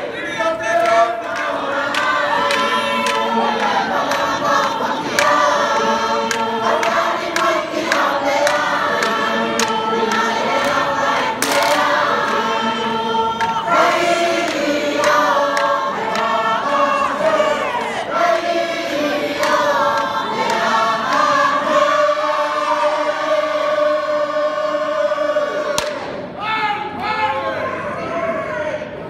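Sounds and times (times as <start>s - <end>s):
choir singing unaccompanied: 0.0s - 26.4s.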